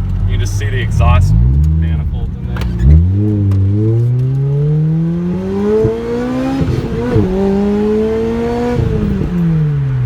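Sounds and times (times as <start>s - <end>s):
sports car engine accelerating: 0.0s - 10.0s.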